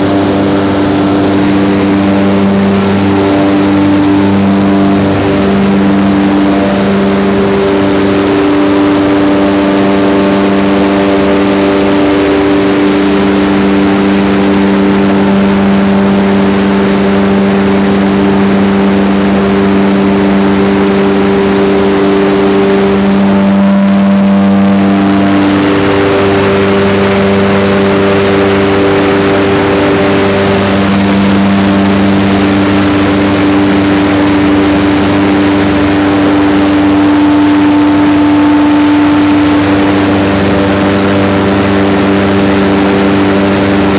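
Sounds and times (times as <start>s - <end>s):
ventilation fan humming: 0.0s - 43.9s.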